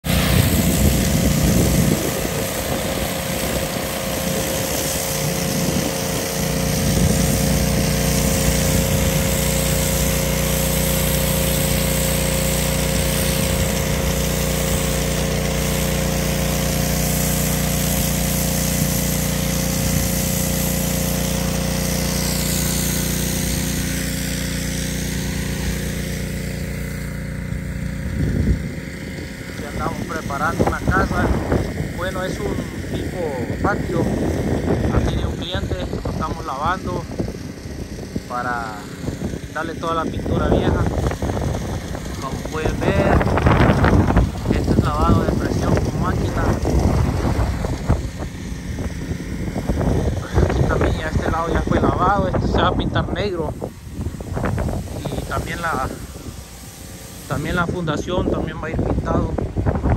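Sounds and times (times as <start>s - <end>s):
high-pressure water spray hissing: 0.0s - 59.9s
small engine running: 0.0s - 59.9s.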